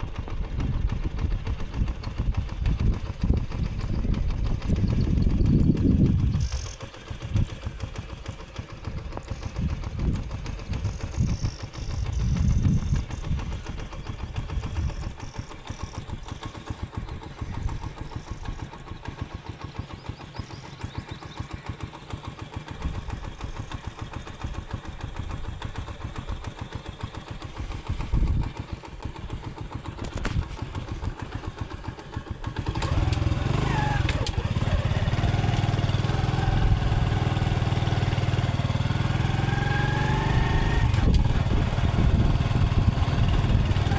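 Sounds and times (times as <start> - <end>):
motorcycle engine putter: 0.0 - 38.6, 40.1 - 43.9.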